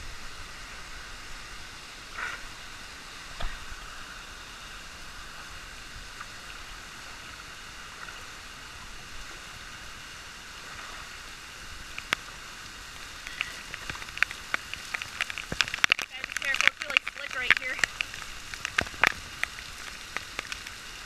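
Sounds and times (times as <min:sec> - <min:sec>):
stream and waterfall rushing: 0:00.0 - 0:21.0.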